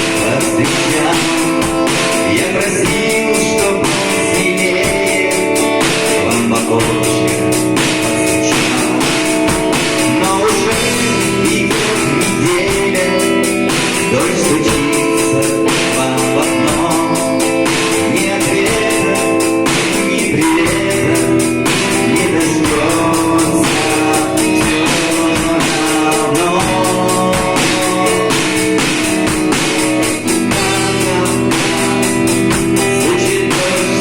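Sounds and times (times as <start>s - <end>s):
beat: 0.0s - 34.0s
strummed guitar: 0.0s - 34.0s.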